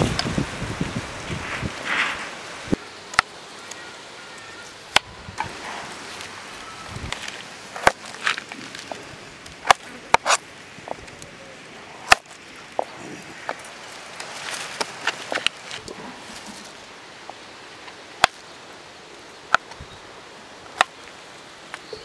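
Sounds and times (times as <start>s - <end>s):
steady rustling hiss: 0.0s - 22.0s.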